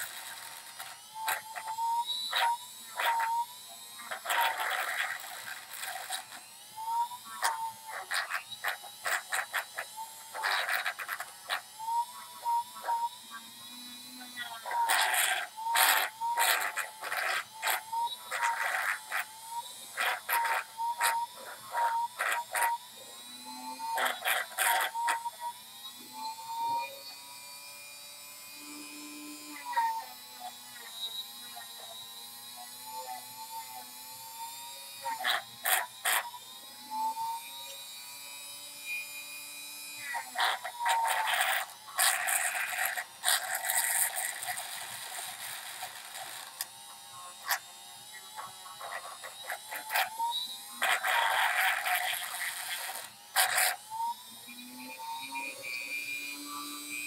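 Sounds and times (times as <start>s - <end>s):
power tool whining: 0.0s - 57.0s.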